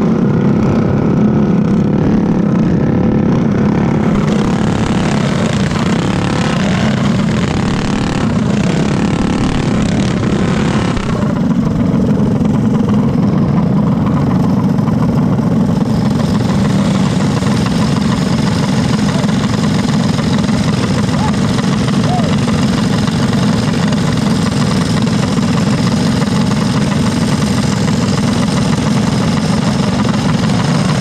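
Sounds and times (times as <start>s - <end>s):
go-kart engines running: 0.0s - 31.0s.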